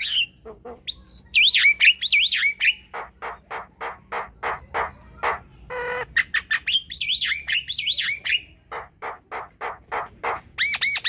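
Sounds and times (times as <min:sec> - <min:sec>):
bird singing varied song: 0:00.0 - 0:04.8, 0:05.6 - 0:11.0.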